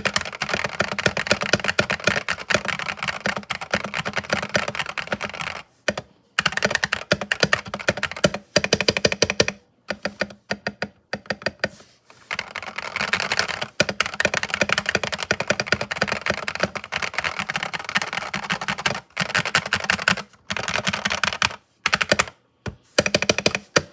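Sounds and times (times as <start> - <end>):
mechanical keyboard keystroke clacks: 0.0 - 11.7, 12.3 - 23.9.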